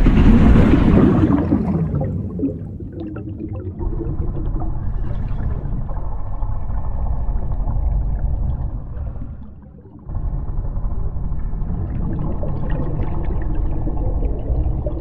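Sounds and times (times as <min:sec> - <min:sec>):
deep underwater rumble with gurgling: 0:00.0 - 0:15.0.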